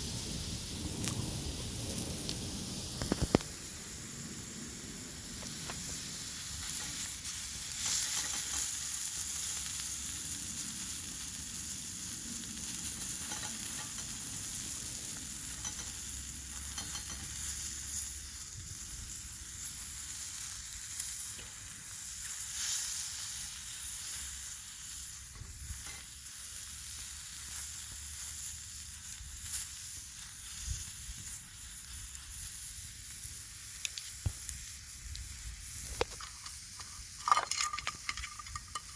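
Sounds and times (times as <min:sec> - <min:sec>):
food sizzling in frying pan: 0:00.0 - 0:38.9.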